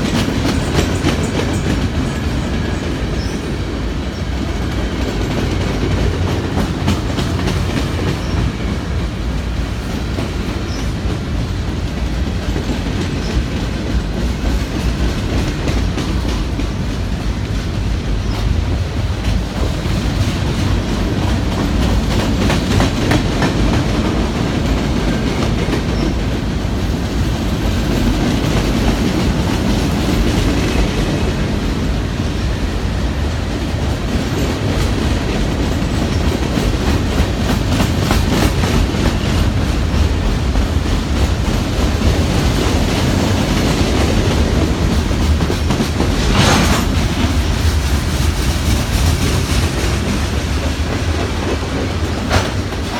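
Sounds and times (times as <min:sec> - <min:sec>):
train wheels clattering over rail joints: 0:00.0 - 0:52.9.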